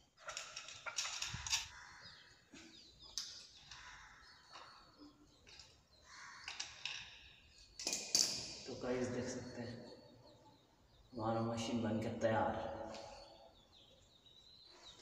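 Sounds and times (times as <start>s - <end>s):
bird chirps: 1.2s - 15.0s.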